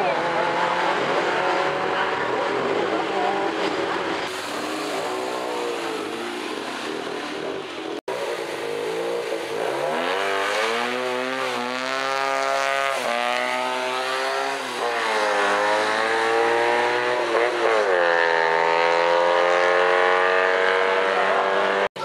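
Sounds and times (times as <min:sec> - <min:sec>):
small car engine revving away: 0:00.0 - 0:07.6, 0:08.2 - 0:21.9.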